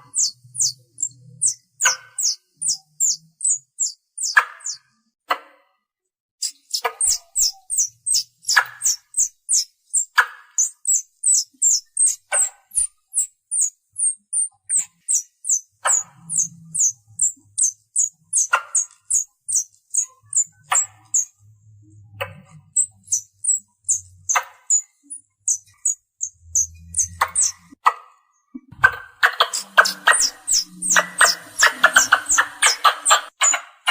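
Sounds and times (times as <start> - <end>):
squirrel chirps: 0.0 - 4.9, 6.4 - 27.8, 28.8 - 33.9.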